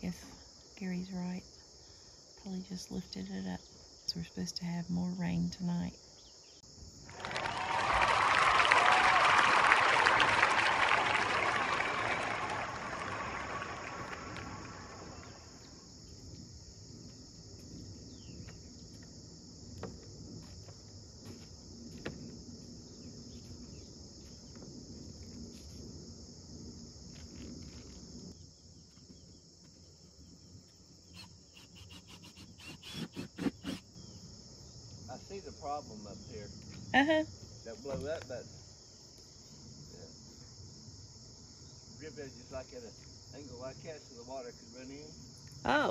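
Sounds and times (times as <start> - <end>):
crickets trilling: 0.0 - 45.9.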